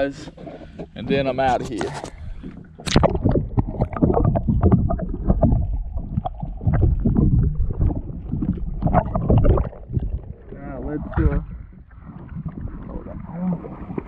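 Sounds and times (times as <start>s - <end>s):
underwater water rushing: 2.1s - 14.0s.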